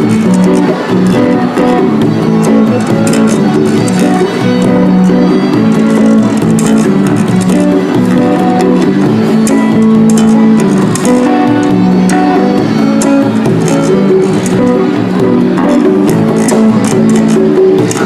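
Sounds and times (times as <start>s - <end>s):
plucked and strummed strings: 0.0s - 18.0s.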